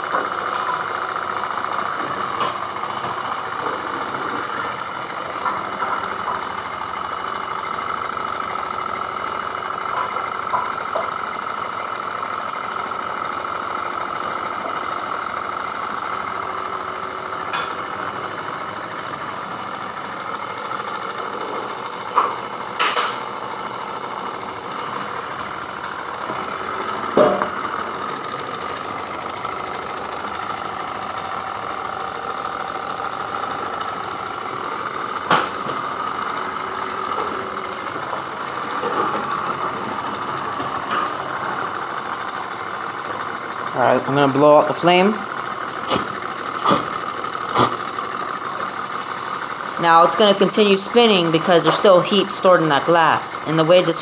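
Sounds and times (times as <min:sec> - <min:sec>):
small engine flywheel whirring: 0:00.0 - 0:54.0.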